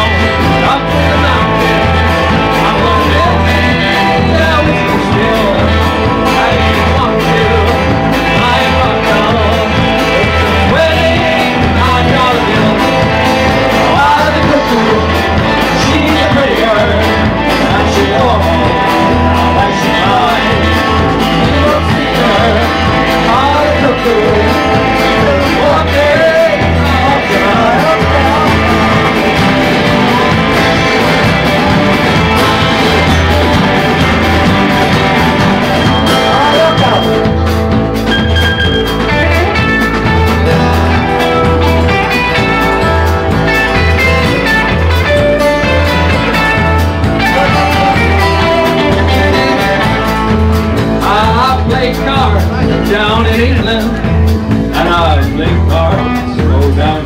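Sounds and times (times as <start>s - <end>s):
guitar lines: 0.0s - 57.0s
live blues-rock band: 0.0s - 57.0s
person singing: 0.0s - 57.0s.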